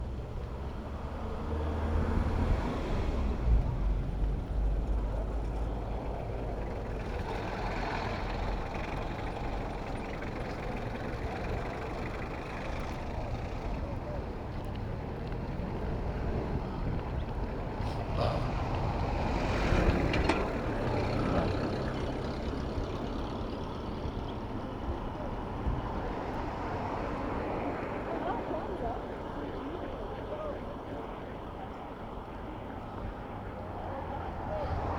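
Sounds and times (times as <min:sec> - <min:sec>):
road traffic rumble: 0:00.0 - 0:34.9.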